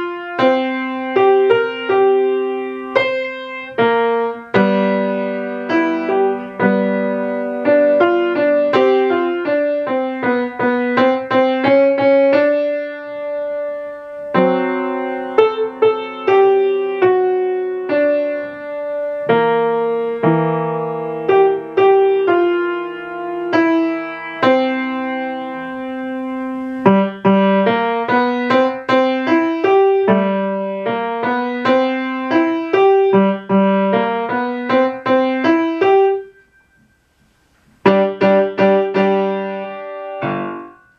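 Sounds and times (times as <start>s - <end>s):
boogie piano piece: 0.0s - 40.9s.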